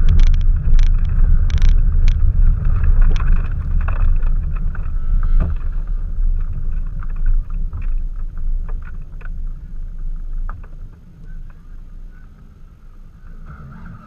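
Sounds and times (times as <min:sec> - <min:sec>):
sharp ticks and clicks: 0:00.0 - 0:11.6
car rumbling: 0:00.0 - 0:14.0.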